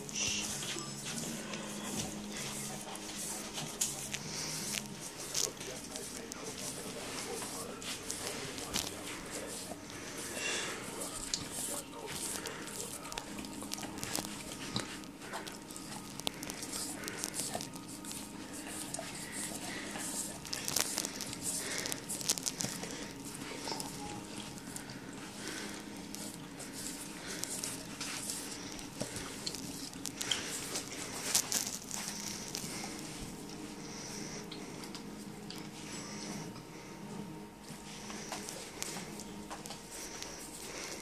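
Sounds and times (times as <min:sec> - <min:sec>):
dog licking and lapping: 0:00.0 - 0:35.7.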